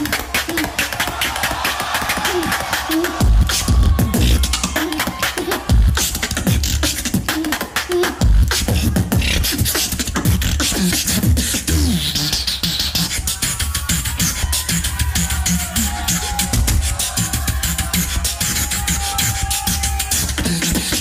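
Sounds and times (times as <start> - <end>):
beatboxing: 0.0 - 21.0.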